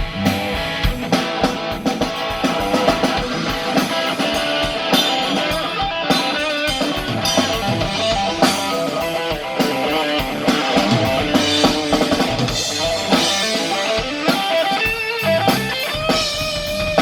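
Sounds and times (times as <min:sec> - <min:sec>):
drum kit: 0:00.0 - 0:17.0
guitar chords: 0:00.0 - 0:17.0.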